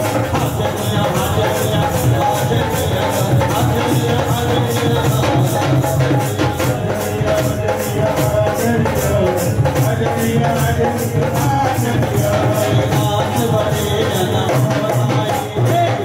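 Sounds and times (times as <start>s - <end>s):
dholak drum: 0.0s - 16.0s
jingling tambourine beat: 0.0s - 16.0s
keyboard: 0.0s - 16.0s.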